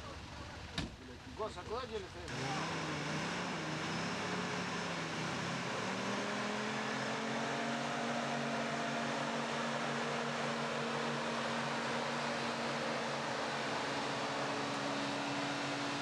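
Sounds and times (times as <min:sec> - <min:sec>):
suv engine driving through mud: 0:00.1 - 0:16.0.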